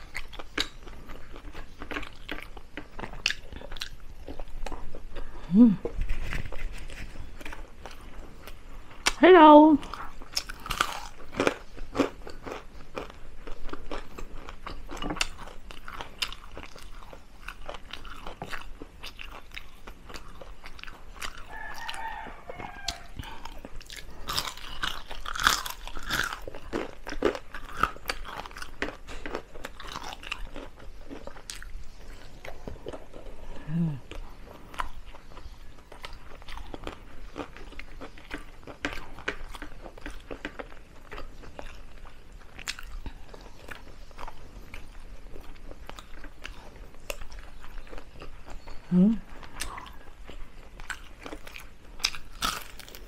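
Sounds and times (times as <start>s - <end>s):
crunching and chewing: 0.0s - 9.2s, 9.8s - 53.0s.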